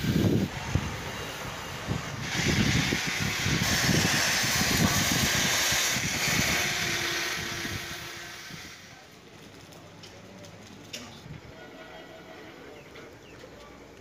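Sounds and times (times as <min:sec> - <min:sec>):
welding arc hissing and crackling: 0:00.0 - 0:11.2.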